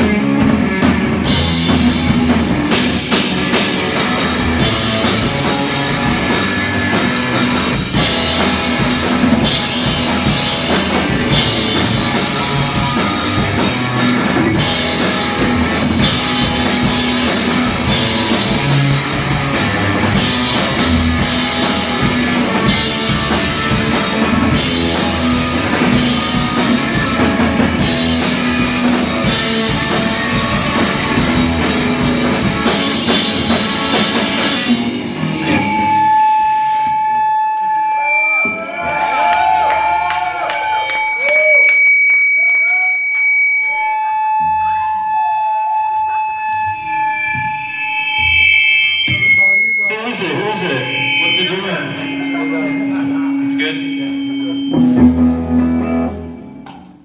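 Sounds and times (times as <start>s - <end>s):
rock band playing live: 0.0s - 42.4s, 43.1s - 57.0s.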